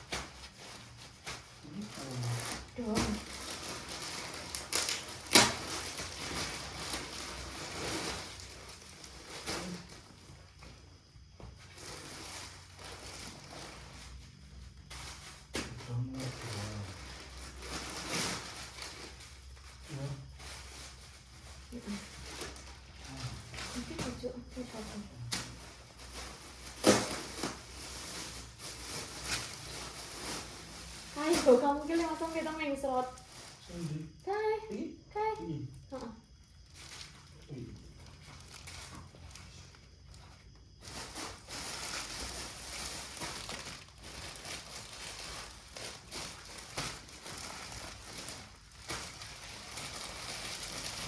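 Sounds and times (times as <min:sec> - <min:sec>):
packaging rustling and crinkling: 0:00.0 - 0:34.0, 0:35.9 - 0:51.0.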